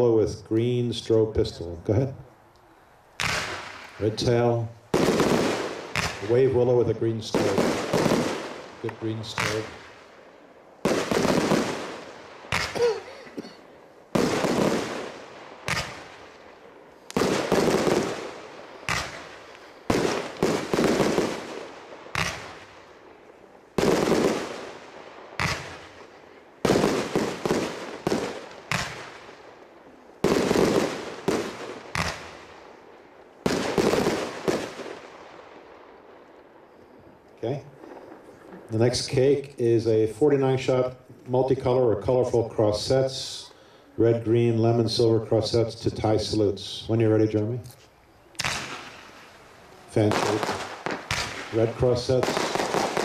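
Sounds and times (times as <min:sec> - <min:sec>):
fireworks reports: 0:00.0 - 0:53.0.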